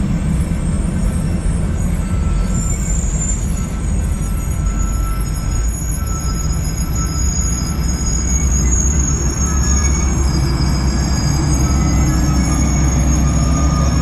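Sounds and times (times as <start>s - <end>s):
high steady wheel squeal: 0.0s - 14.0s
steel wheels rumbling on rail: 0.0s - 14.0s.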